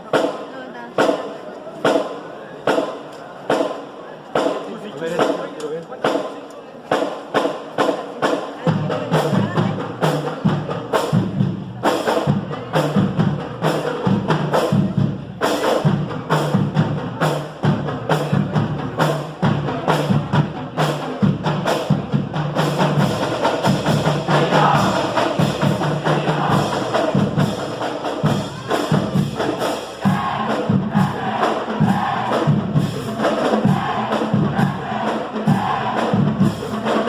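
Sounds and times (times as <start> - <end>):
drums beating sharp strokes: 0.0 - 37.0
marching band playing: 0.0 - 37.0.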